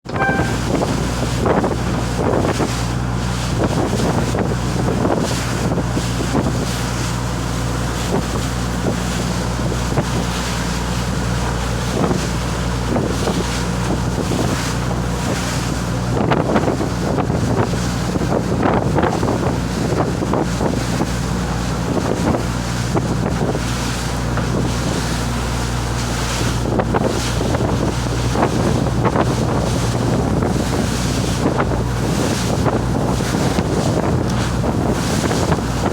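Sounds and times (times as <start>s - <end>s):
boat engine running: 0.0s - 35.9s
water rushing past hull: 0.0s - 35.9s
wind buffeting microphone: 0.4s - 35.9s.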